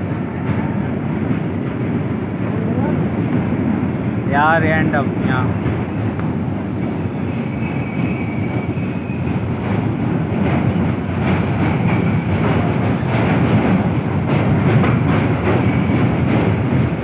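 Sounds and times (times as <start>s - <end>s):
train wheels rumbling on bridge: 0.0s - 17.0s.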